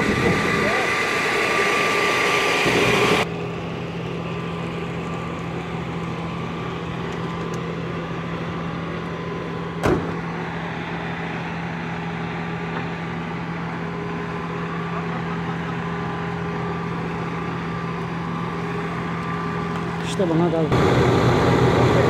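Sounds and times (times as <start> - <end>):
low vehicle engine hum: 0.0 - 22.0.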